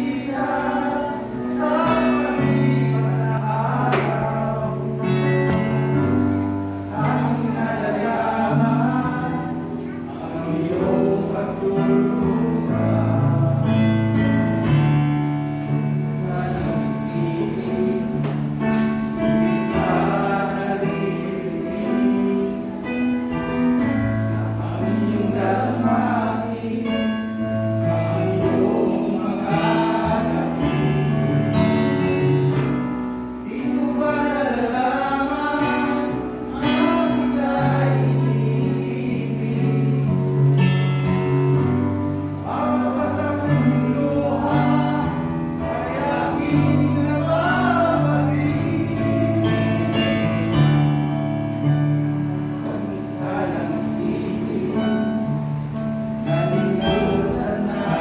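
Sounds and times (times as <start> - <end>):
held bass notes: 0.0 - 58.0
men's group singing gospel: 0.0 - 58.0.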